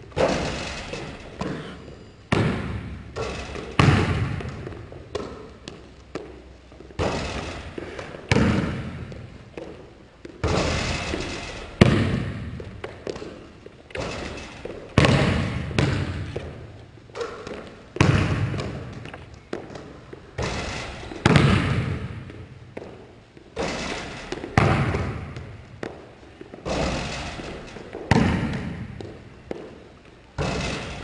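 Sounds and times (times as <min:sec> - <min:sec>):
basketball bouncing on wooden floor: 0:00.0 - 0:01.7, 0:02.3 - 0:31.0.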